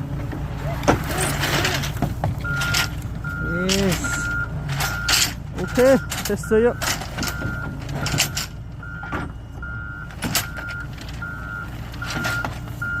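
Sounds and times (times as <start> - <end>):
diesel engine running: 0.0 - 13.0
reversing alarm beeping: 2.4 - 13.0.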